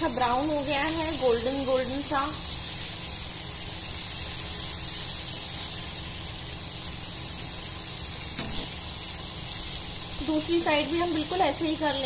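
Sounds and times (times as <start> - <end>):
cheese sizzling in hot oil: 0.0 - 12.0.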